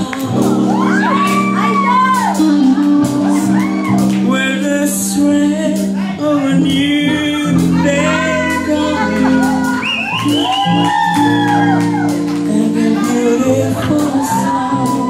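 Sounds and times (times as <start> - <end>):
pop song with singing and guitar: 0.0 - 15.0.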